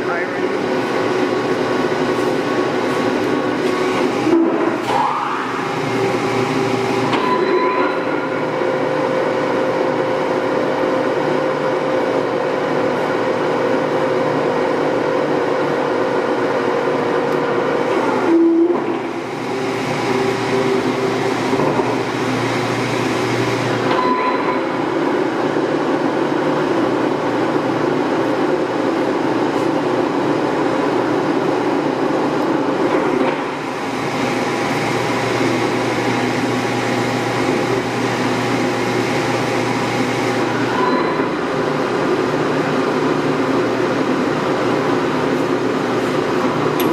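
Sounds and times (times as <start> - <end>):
lathe machine hum: 0.0 - 46.9.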